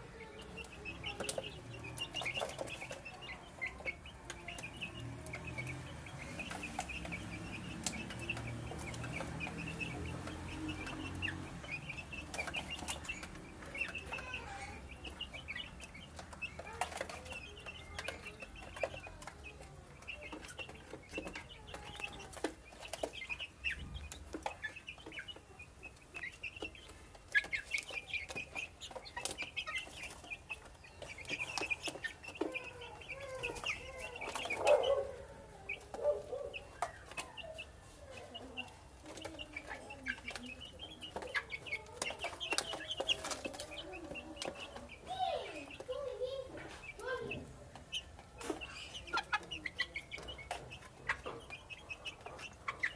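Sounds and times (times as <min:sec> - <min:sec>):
chickens peeping and clucking: 0:00.0 - 0:52.9
beaks pecking plastic dish: 0:00.2 - 0:52.9.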